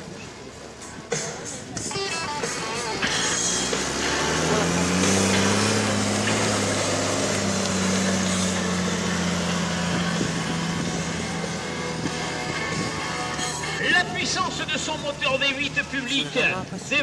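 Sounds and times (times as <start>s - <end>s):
truck engine driving by: 0.0s - 17.0s.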